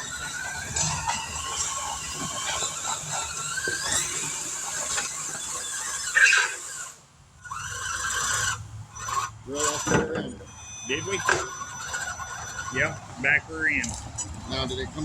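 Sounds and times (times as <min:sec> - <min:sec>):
drivetrain squeal: 0:00.0 - 0:15.0
electric motor whining: 0:00.0 - 0:15.0.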